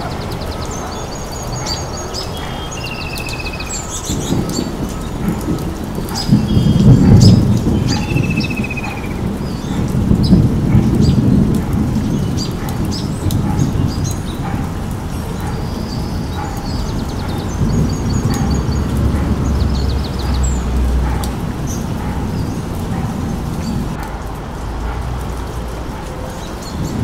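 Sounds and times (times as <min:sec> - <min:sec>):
birds chirping: 0:00.0 - 0:24.1, 0:24.8 - 0:27.0.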